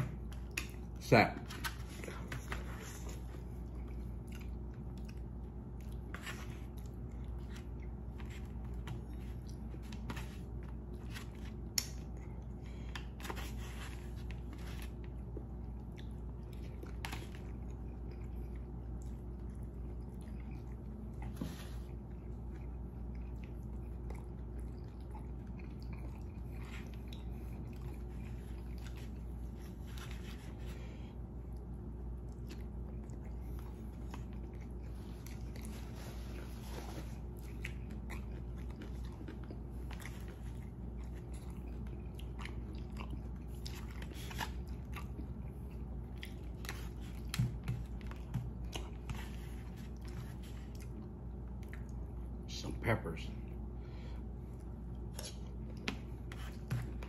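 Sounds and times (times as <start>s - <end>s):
steady low hum: 0.0s - 57.0s
person chewing food: 1.8s - 52.4s, 53.5s - 57.0s.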